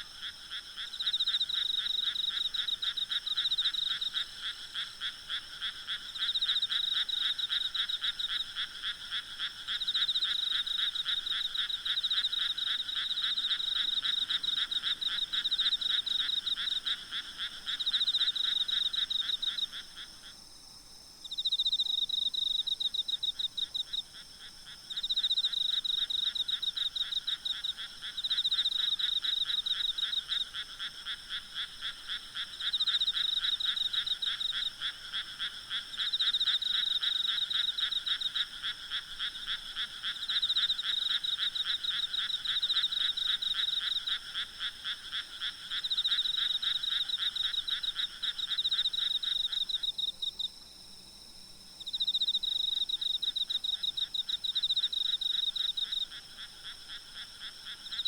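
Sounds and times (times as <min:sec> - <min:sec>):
faint insect trill: 0:00.0 - 0:58.0
frogs croaking: 0:00.0 - 0:58.0.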